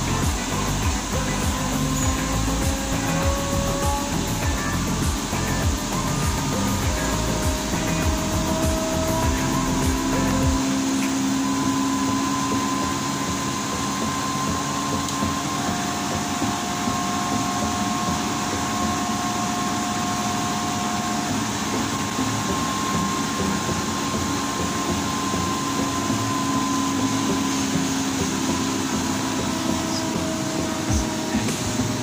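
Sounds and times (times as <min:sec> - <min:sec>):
air compressor droning: 0:00.0 - 0:32.0
high whine: 0:00.0 - 0:32.0
lower whine: 0:00.0 - 0:32.0.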